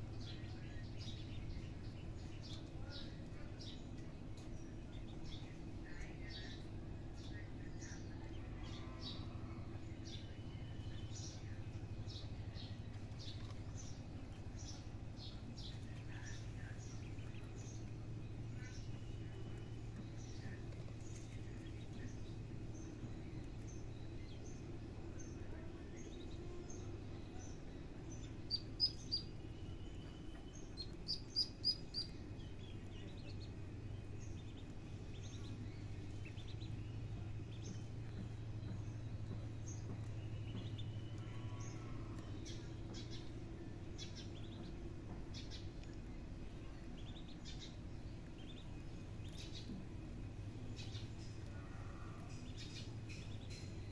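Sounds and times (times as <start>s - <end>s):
small birds chirping: 0.0s - 53.9s
steady low hum: 0.0s - 53.9s.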